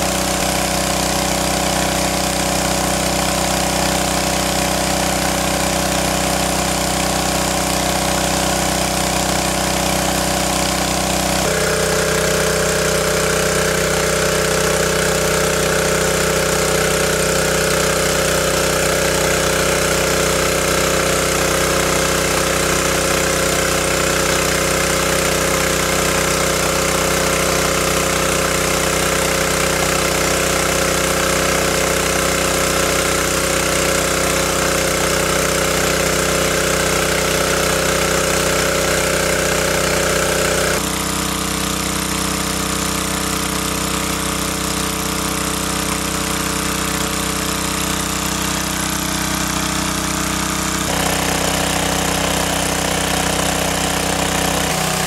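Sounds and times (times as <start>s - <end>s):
water gushing from hose: 0.0s - 55.0s
water pump engine running: 0.0s - 55.0s.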